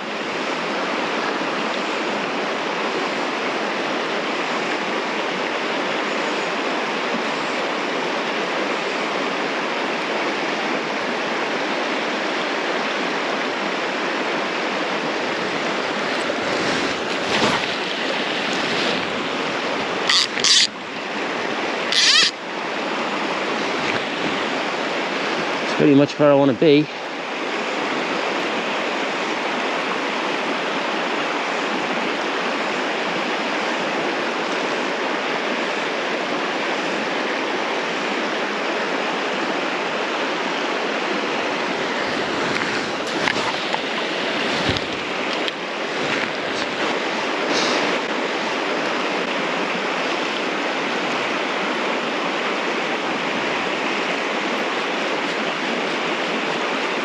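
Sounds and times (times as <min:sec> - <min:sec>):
river water flowing over stones: 0:00.0 - 0:57.0.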